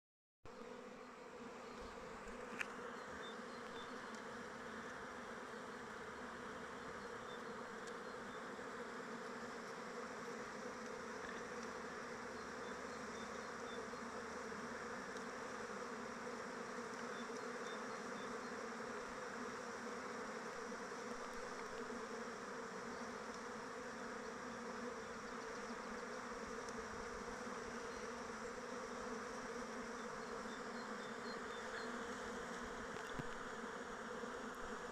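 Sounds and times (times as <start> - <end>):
bees buzzing: 0.5 - 34.9.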